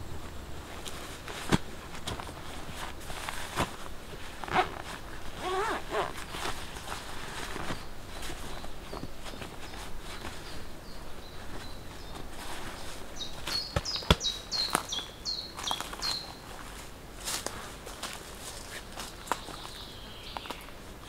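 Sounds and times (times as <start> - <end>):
footsteps in forest litter: 0.6 - 20.8.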